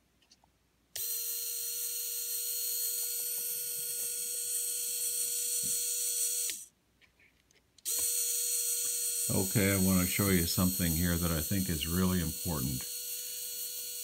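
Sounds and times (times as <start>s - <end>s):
small electric motor whining: 1.0s - 6.7s, 7.8s - 14.0s.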